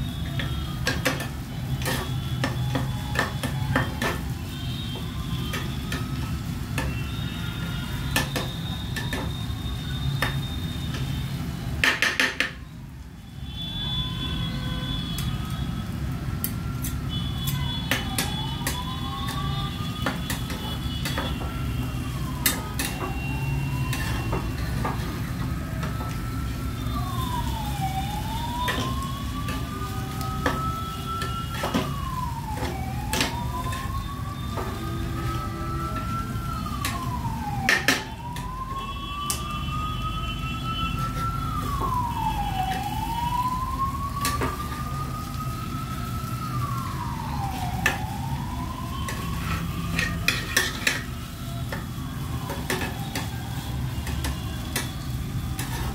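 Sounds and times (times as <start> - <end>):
siren wailing: 0.0 - 55.9.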